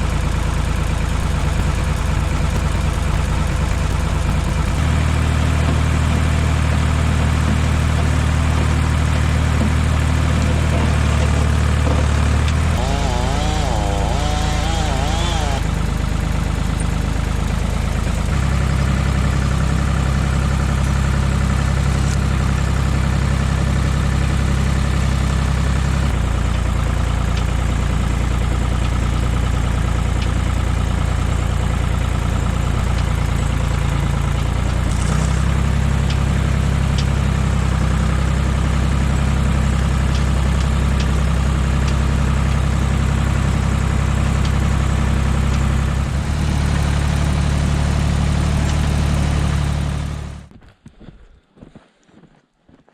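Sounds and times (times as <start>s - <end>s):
tractor engine running: 0.0s - 50.6s.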